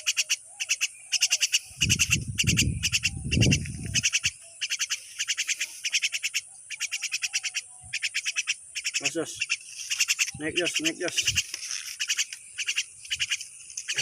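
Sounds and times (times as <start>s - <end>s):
animals pulsed calls: 0.0s - 14.0s.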